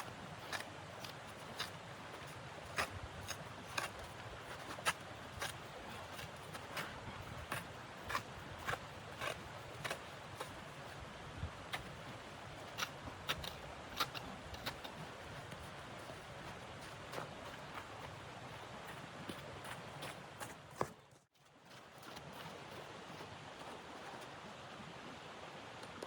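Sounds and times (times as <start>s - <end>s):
footsteps crunching in snow: 0.0s - 24.8s.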